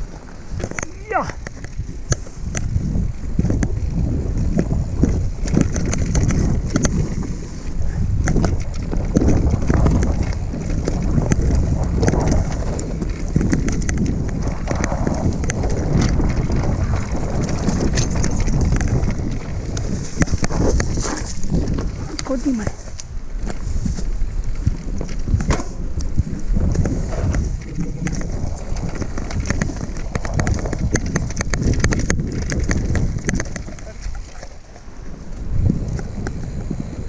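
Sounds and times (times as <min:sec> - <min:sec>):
bike clicking and rattling: 0:00.0 - 0:37.0
tyres rumbling on dirt: 0:00.0 - 0:37.0
wind buffeting microphone: 0:00.0 - 0:37.0.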